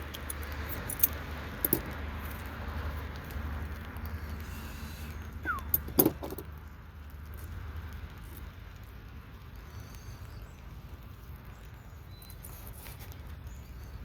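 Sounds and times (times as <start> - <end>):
rain pattering on tent: 0.0 - 14.0.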